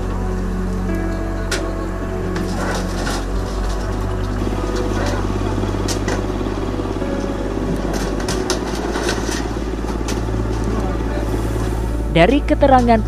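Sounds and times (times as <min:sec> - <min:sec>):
crane diesel engine running: 0:00.0 - 0:13.0.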